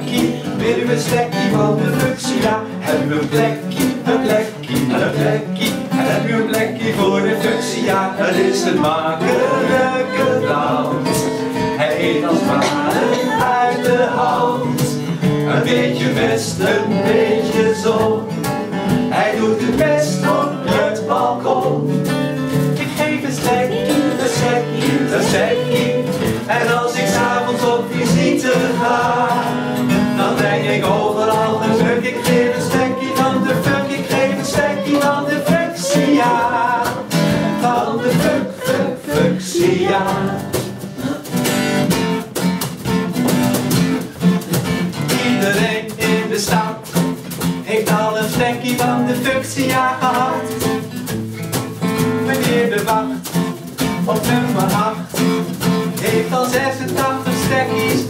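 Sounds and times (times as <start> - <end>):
person singing: 0.0 - 41.5, 45.1 - 47.0, 47.6 - 50.8, 52.3 - 58.0
cajon beat: 0.0 - 58.0
strummed acoustic guitar: 0.0 - 58.0.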